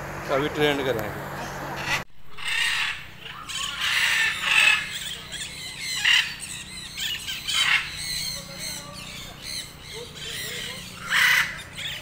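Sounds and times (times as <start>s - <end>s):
parrots squawking: 1.7s - 12.0s.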